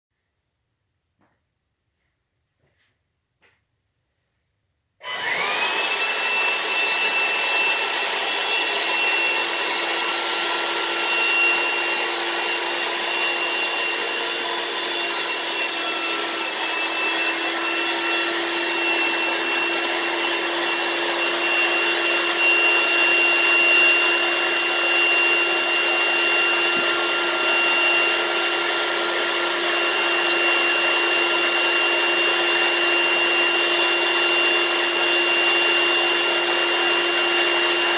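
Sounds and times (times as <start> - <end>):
electric air pump whining: 5.0 - 37.9.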